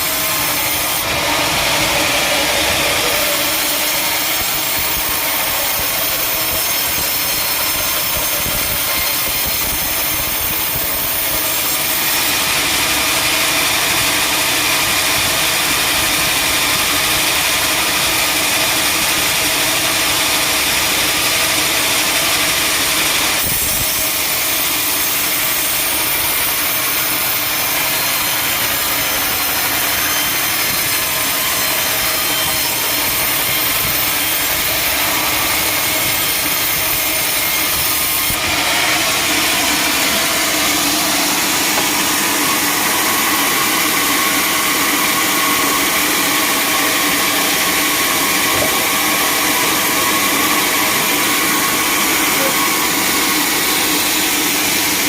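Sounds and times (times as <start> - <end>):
steady machine hum: 0.0 - 8.9, 12.2 - 55.0
sawmill saw cutting log: 0.0 - 55.0.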